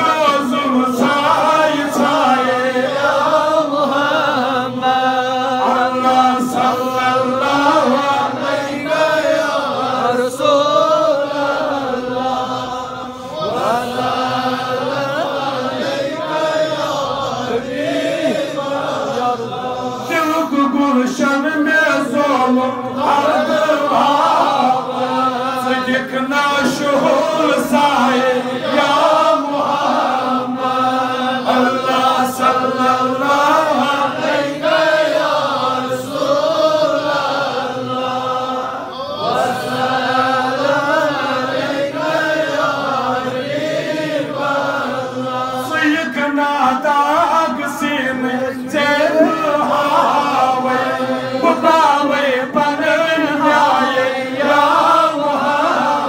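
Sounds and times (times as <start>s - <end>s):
men chanting over loudspeaker: 0.0s - 56.0s.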